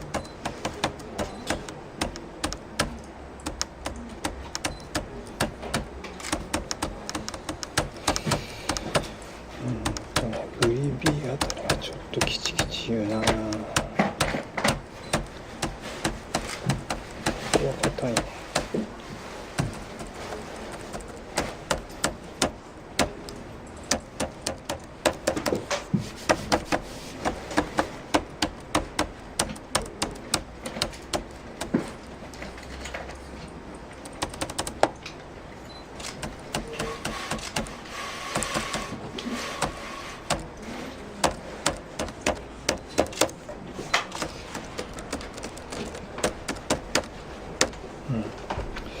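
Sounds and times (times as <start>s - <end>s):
laptop keyboard clicks: 0.0s - 19.0s, 19.6s - 32.4s, 33.9s - 35.1s, 36.0s - 39.0s, 39.6s - 47.8s.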